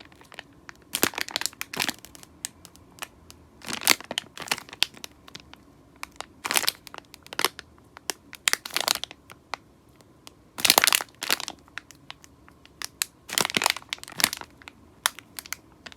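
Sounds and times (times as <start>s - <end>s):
squishy toy crinkling: 0.0s - 9.6s, 10.6s - 15.9s.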